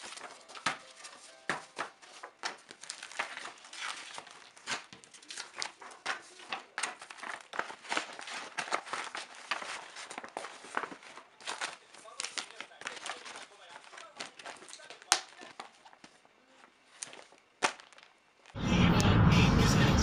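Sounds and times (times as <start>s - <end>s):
crinkling and rustling: 0.0s - 18.6s.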